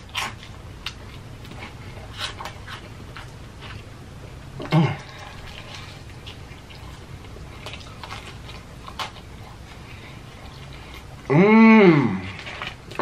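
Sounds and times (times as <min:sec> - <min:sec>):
chewing crispy fried chicken: 0:00.0 - 0:11.3.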